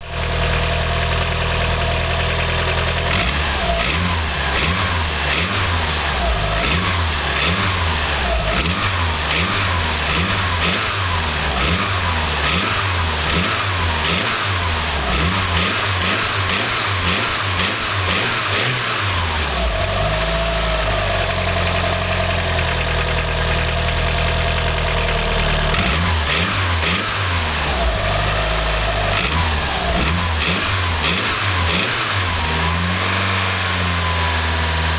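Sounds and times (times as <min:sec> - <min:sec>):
car engine idling and revving: 0:00.0 - 0:34.9
engine knocking noise: 0:00.0 - 0:34.9.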